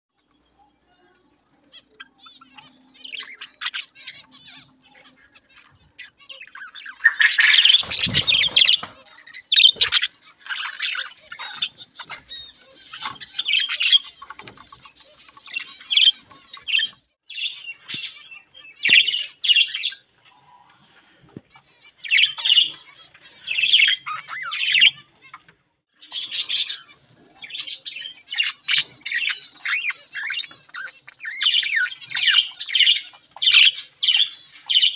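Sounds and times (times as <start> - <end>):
budgerigars chattering and warbling: 1.3 - 34.9.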